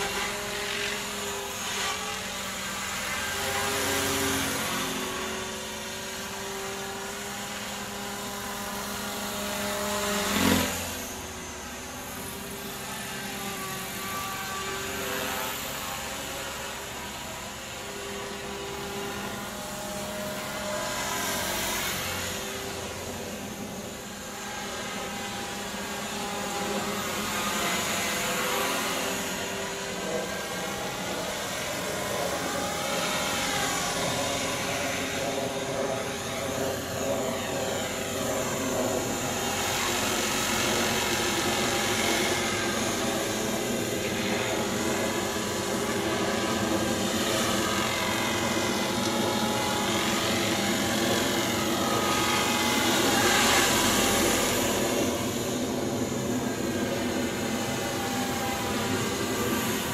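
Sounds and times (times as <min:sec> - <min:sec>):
rc helicopter motor whine: 0:00.0 - 0:59.9
rotor blades buzzing: 0:00.0 - 0:59.9.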